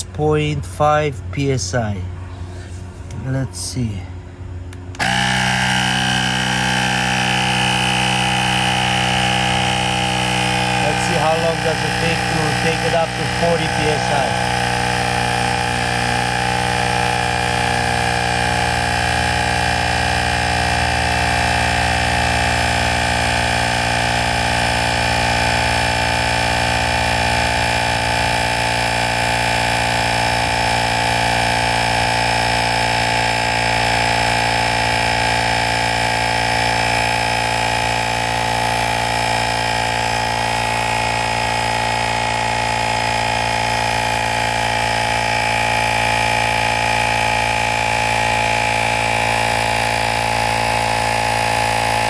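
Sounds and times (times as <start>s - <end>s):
tire inflator compressor running: 0.0s - 52.0s.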